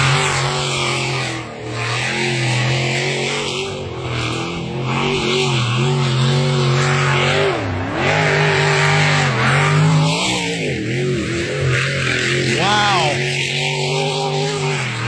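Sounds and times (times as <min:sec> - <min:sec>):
racing boat engine running loud: 0:00.0 - 0:15.0.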